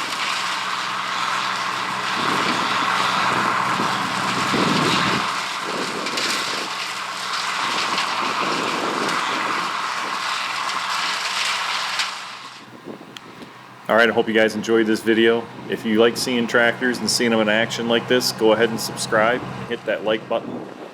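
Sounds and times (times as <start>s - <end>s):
combine harvester machinery drone: 0.0s - 20.9s.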